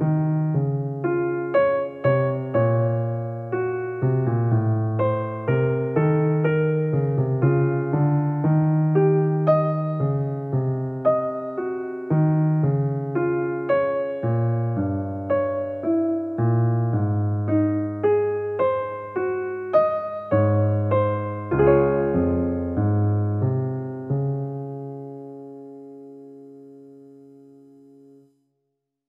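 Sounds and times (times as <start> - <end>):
gentle piano music: 0.0 - 28.4.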